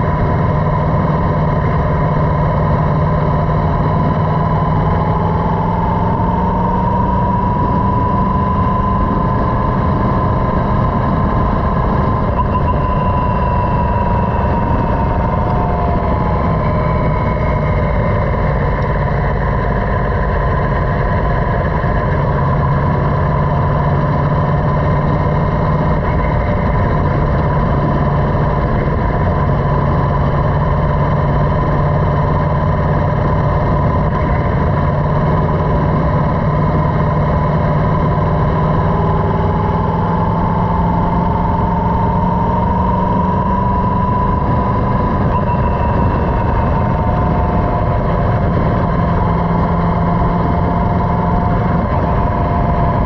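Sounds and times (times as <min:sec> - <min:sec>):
motorcycle engine cruising: 0:00.0 - 0:53.0
road noise: 0:00.0 - 0:53.0
wind noise: 0:00.0 - 0:53.0.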